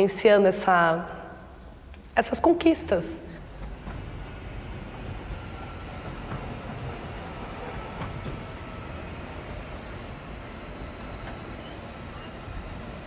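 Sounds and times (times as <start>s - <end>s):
electric train rumbling past: 0.0s - 13.0s
faint train whine: 0.0s - 13.0s
wheels clicking on track: 1.8s - 13.0s.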